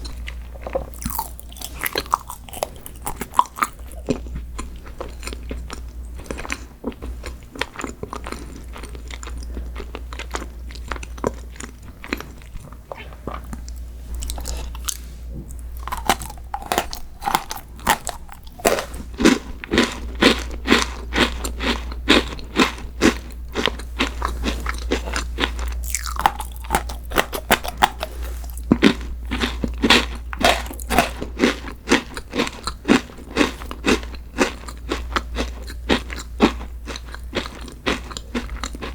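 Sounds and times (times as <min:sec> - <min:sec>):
person crunching sweets: 0:00.0 - 0:38.9.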